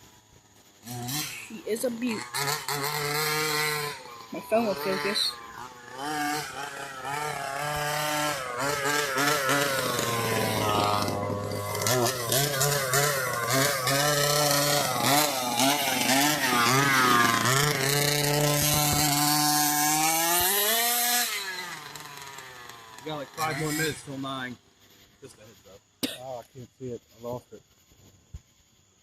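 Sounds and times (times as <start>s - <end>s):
rc car engine revving: 0.7s - 24.6s.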